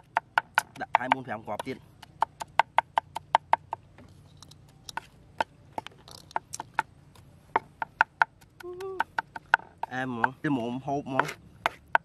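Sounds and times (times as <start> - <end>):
cleaver chopping on wooden block: 0.0 - 3.9, 4.9 - 12.0.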